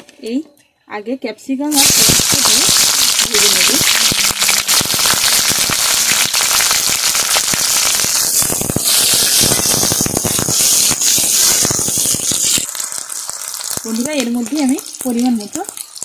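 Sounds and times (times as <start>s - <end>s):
vegetables sizzling in hot oil: 1.7s - 16.0s.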